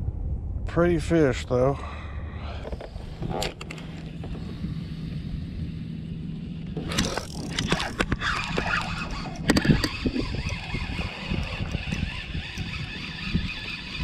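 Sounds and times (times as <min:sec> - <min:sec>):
faint steady hum: 0:00.0 - 0:13.4
wind buffeting microphone: 0:00.0 - 0:14.0.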